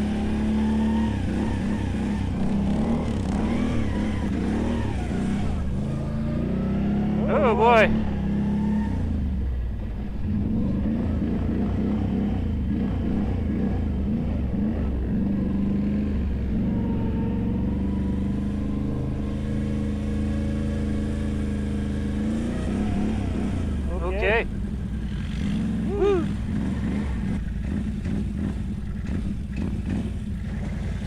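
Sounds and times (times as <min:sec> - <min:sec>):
atv engine revving: 0:00.0 - 0:31.0.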